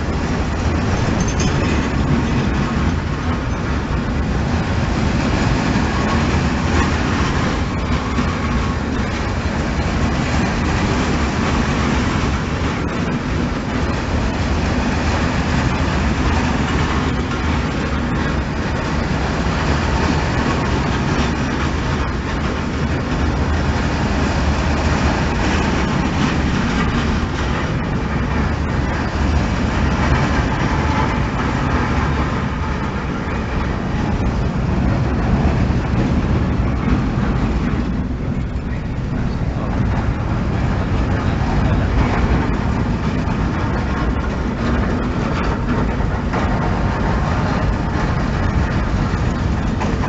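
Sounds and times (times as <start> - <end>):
steel wheels running on rails: 0.0 - 50.0.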